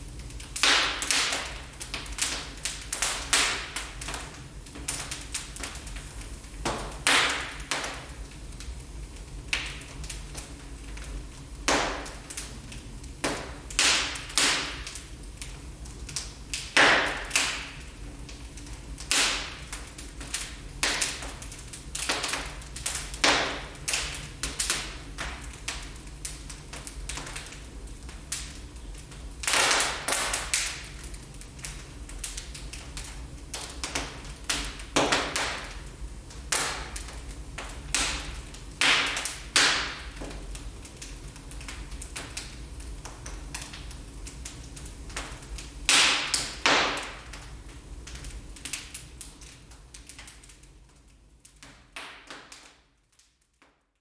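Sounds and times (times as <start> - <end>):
low fire rumble: 0.0 - 52.7
wood fire crackling: 0.0 - 54.0
fire pops and snaps: 0.1 - 53.8.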